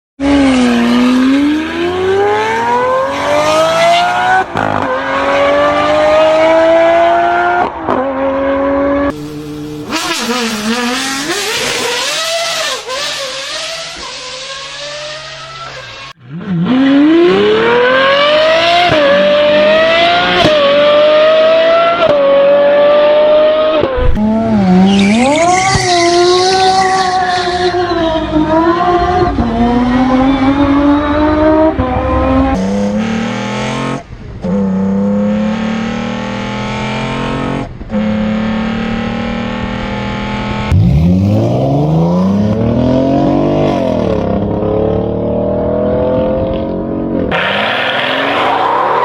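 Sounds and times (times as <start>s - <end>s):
supercar engines accelerating hard: 0.2s - 49.0s.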